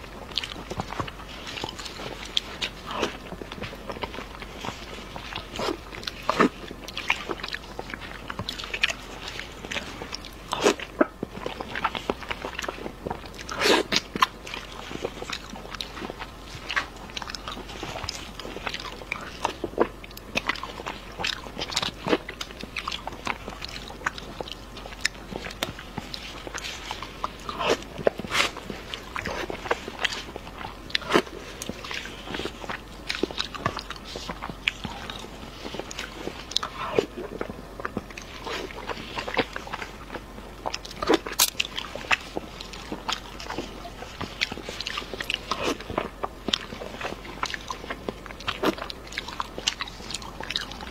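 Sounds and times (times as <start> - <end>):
food crunch: 0.0 - 50.9
wet chewing and lip smacking: 0.0 - 50.9.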